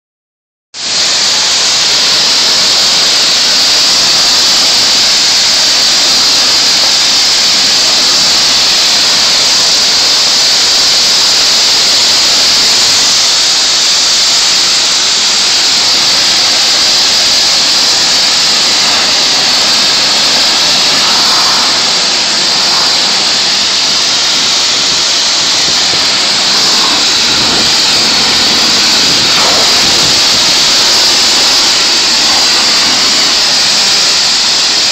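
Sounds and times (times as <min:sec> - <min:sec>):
pressure washer spray hissing: 0:00.8 - 0:34.9.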